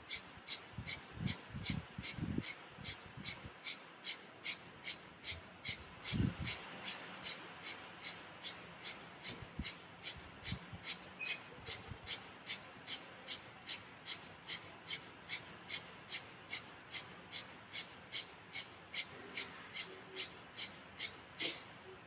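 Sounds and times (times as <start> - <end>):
rapid forceful breathing: 0.0 - 22.0.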